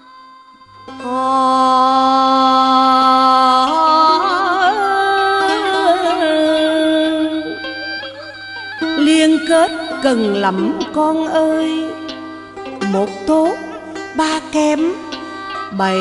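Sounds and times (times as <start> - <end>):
woman singing folk song: 0.9 - 7.8, 8.8 - 16.0.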